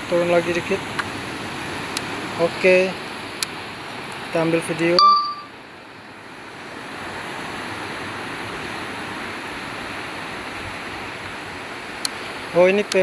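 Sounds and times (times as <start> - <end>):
waves breaking: 0.0 - 5.0, 5.6 - 13.0.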